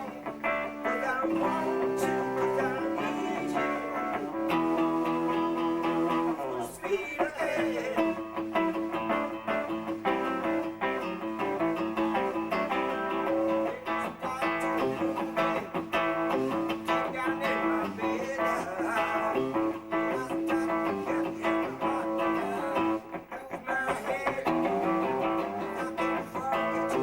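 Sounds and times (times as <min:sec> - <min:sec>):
blues-rock band playing: 0:00.0 - 0:27.0
electric guitar playing: 0:00.0 - 0:27.0.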